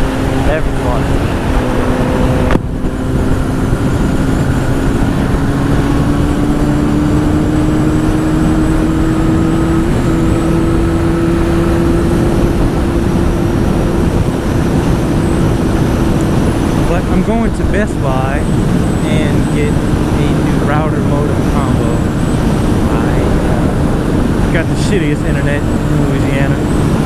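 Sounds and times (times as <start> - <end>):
motorcycle engine at speed: 0.0 - 27.0
wind on microphone: 0.0 - 27.0.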